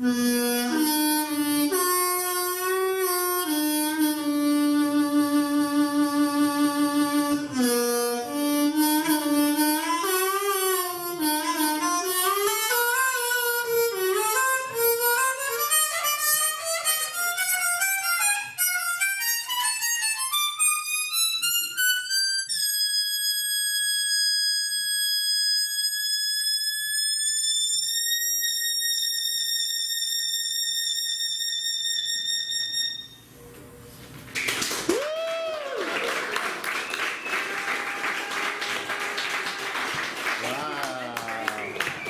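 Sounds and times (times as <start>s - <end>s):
solo instrument playing notes: 0.0s - 33.9s.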